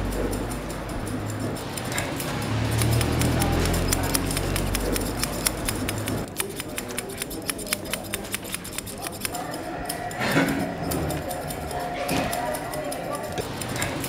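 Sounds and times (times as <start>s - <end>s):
scissors snipping hair: 0.0s - 14.0s.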